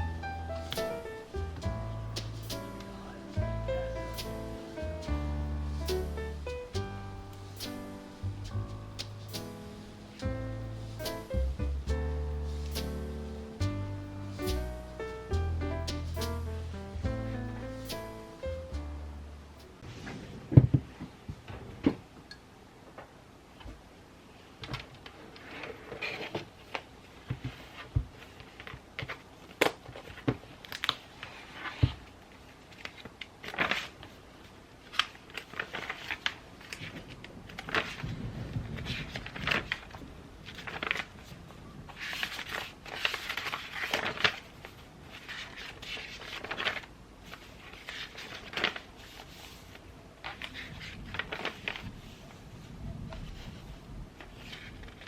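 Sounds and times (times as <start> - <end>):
paper rustling: 0.0 - 19.0, 24.8 - 55.0.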